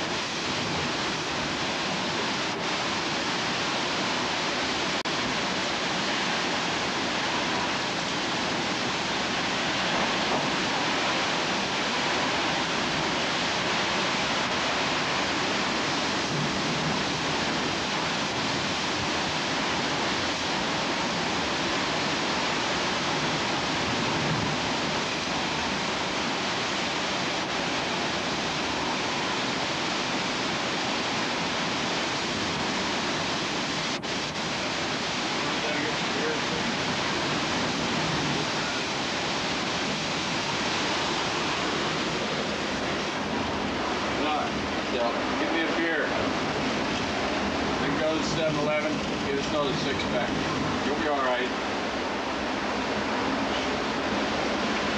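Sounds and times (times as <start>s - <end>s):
heavy rain: 0.0s - 54.9s
strong wind: 0.0s - 54.9s.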